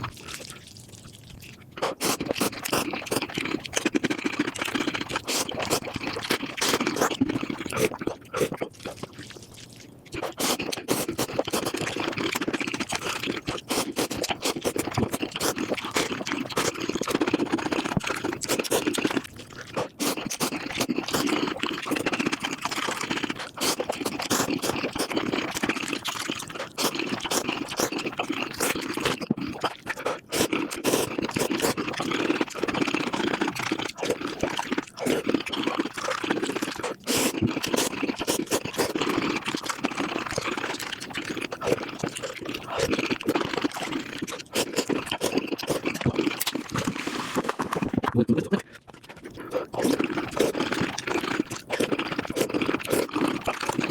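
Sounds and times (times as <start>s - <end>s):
sped-up chewing and crunching: 0.0s - 53.9s.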